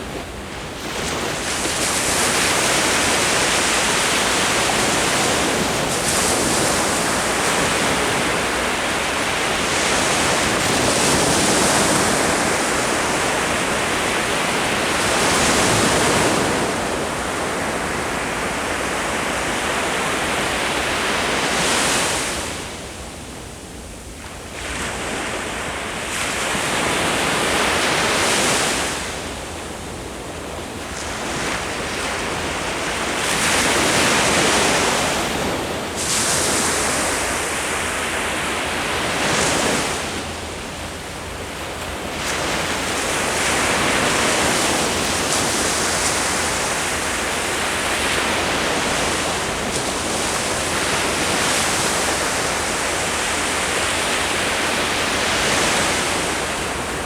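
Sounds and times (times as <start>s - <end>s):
ocean waves washing up shore: 0.0s - 57.0s.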